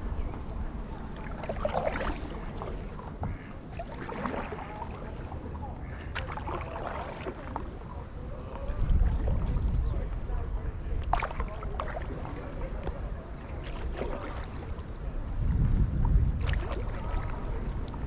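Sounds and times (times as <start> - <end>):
paddle strokes in water: 0.0 - 18.0
wind rumble on microphone: 0.0 - 18.0.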